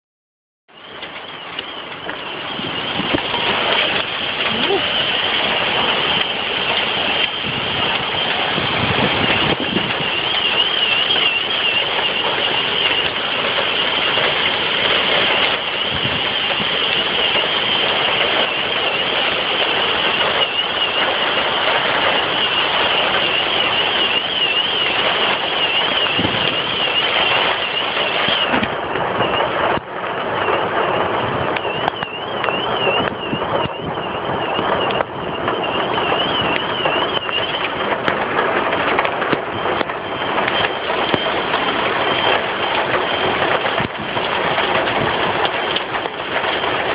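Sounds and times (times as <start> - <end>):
heavy rain pouring: 0.7 - 46.9.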